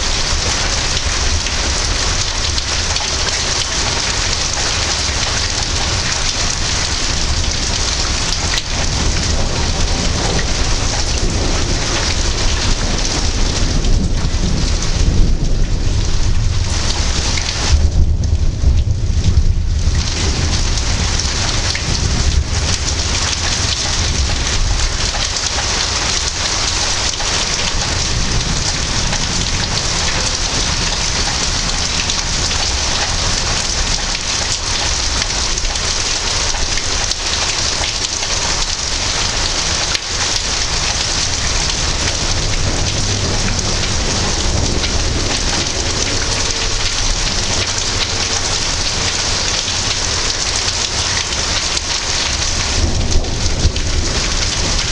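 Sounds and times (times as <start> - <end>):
heavy rain pouring: 0.0 - 54.9
low rumble of thunder: 0.0 - 54.9.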